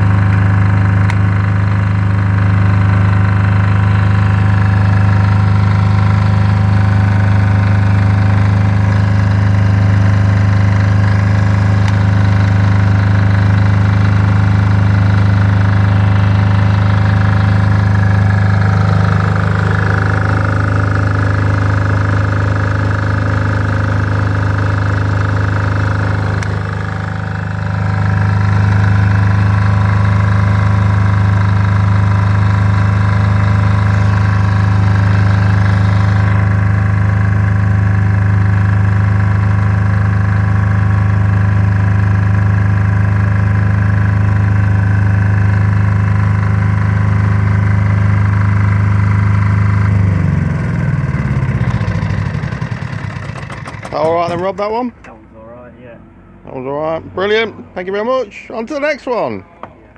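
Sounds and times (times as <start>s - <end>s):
diesel generator running: 0.0s - 59.9s.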